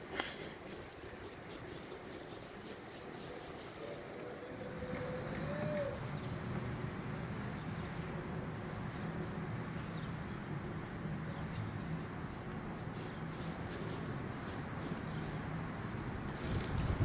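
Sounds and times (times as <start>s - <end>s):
small birds chirping: 0.1s - 6.4s, 7.0s - 10.5s, 11.2s - 17.0s.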